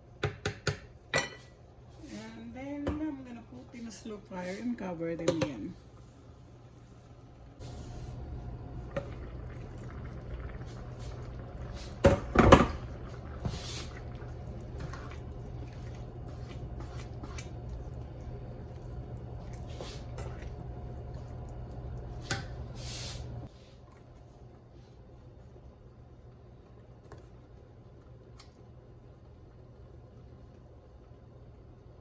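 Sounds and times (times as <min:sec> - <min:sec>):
steady low hum: 0:00.9 - 0:32.0.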